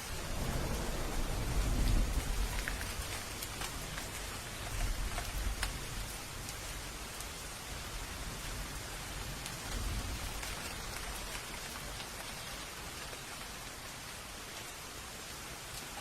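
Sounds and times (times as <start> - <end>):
raindrops ticking: 0.0 - 14.9
steady rain hiss: 0.0 - 16.0.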